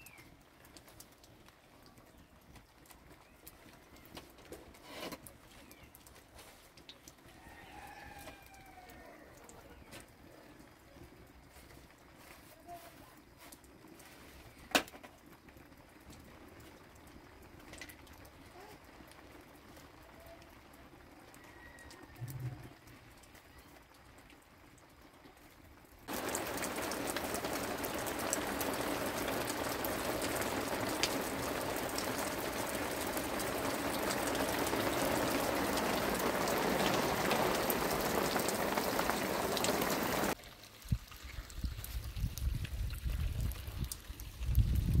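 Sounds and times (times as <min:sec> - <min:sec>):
rain falling on puddles: 0:00.0 - 0:45.0.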